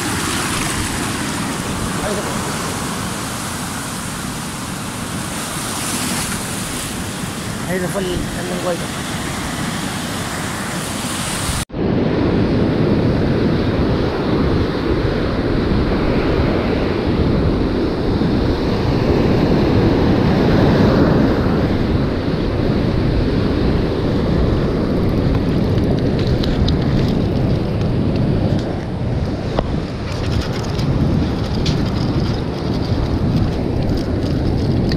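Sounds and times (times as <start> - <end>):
surf breaking on beach: 0.0 - 28.1
wind buffeting microphone: 0.0 - 34.9.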